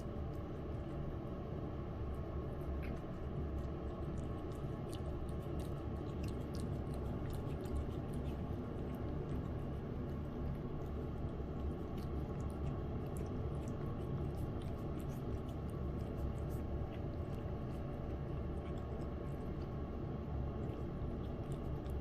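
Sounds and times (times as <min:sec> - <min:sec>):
cat chewing and licking: 0:00.0 - 0:22.0
steady low hum: 0:00.0 - 0:22.0.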